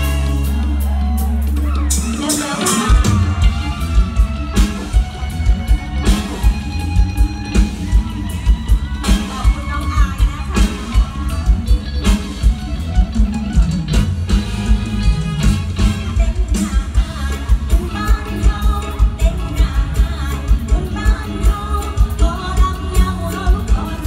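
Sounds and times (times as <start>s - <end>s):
plucked guitar: 0.0s - 24.0s.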